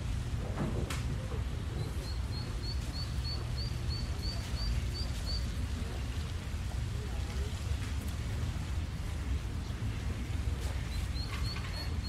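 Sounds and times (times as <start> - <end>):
faint voices: 0.3 - 12.0.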